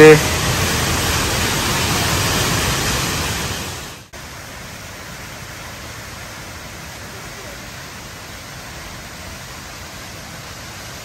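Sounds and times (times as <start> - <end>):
indoor waterfall rushing: 0.0 - 11.0.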